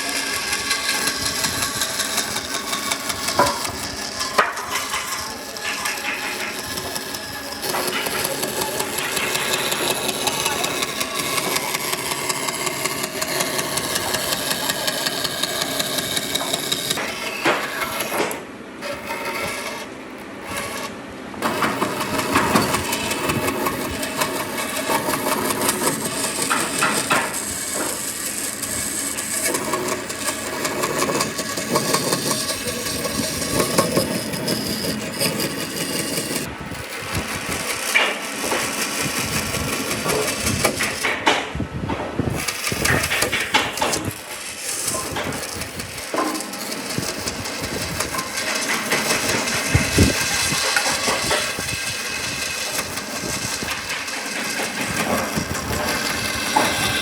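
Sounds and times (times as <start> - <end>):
woodworking power tools running: 0.0 - 41.5, 42.3 - 57.0.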